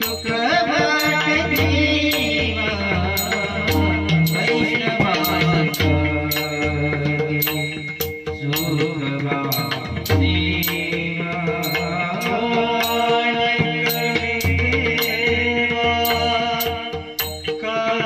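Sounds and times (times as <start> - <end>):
devotional music: 0.0 - 18.0.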